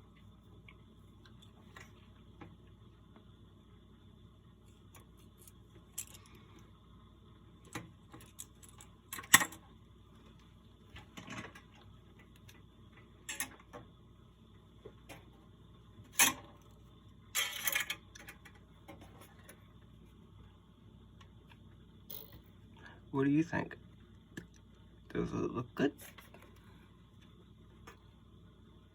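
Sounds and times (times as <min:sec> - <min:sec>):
faint high whine: 0:00.0 - 0:28.9.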